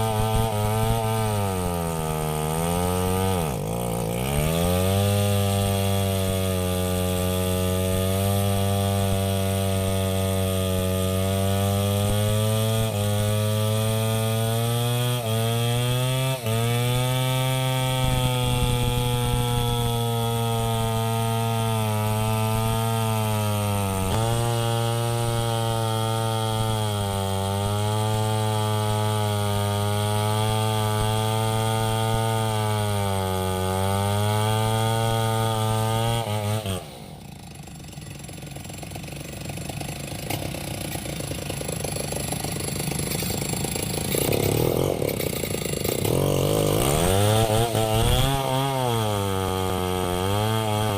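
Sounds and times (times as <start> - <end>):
chainsaw cutting log: 0.0 - 50.9.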